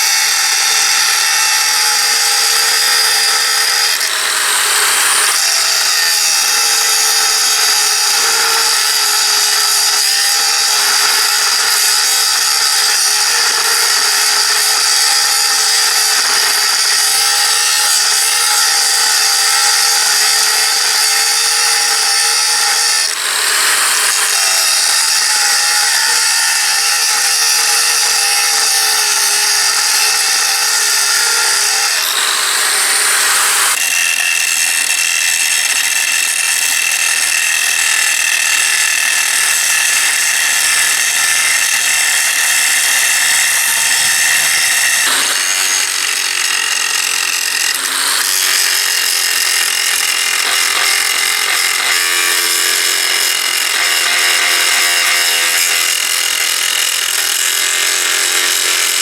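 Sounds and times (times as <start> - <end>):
power tool whining on metal: 0.0 - 59.0.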